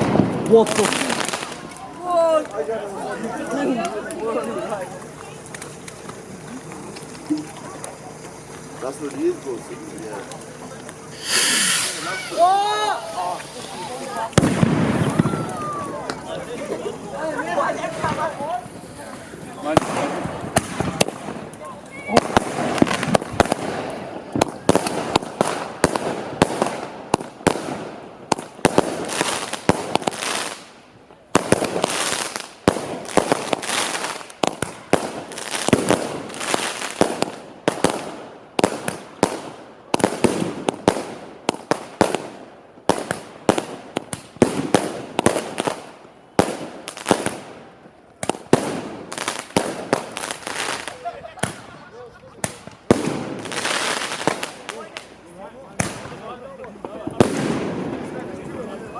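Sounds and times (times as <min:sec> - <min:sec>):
fireworks banging: 0:00.0 - 0:58.9.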